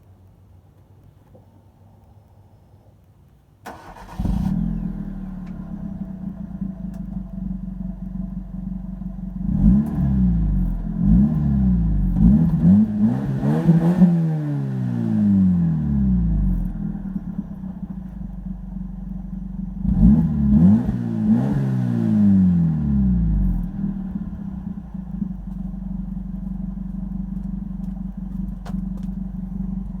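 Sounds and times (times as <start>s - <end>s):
car engine exhaust revving and idling: 3.9s - 30.0s.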